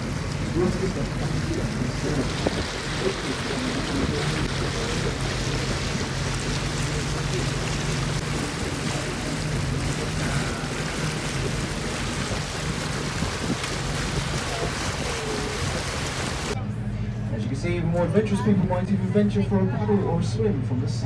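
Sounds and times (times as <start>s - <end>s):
boat engine humming: 0.0s - 21.0s
water rushing along hull: 0.0s - 21.0s.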